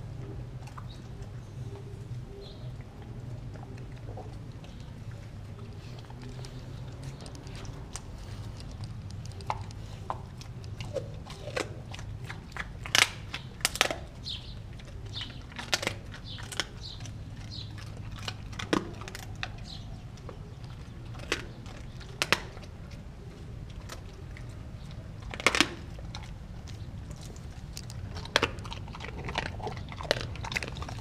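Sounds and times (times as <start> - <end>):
dog chewing meat and bone: 0.0 - 31.0.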